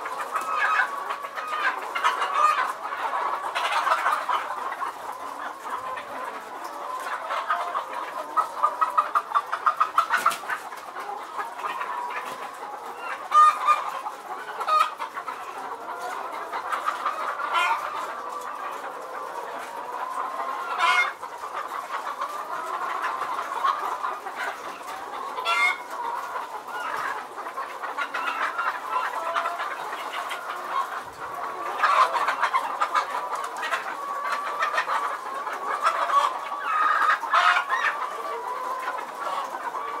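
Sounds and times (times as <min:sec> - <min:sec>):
chickens clucking and cackling: 0:00.0 - 0:40.0.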